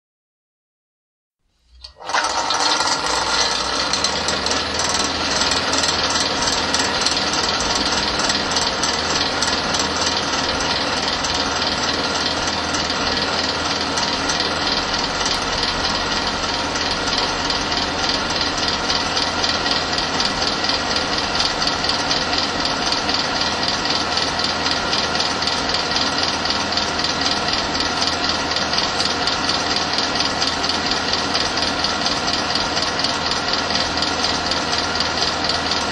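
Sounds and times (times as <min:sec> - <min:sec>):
fan whirring: 0:01.6 - 0:35.9.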